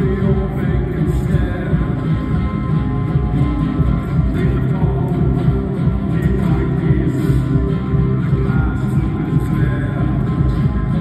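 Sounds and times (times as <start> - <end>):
amplified acoustic guitar playing: 0.0 - 11.0.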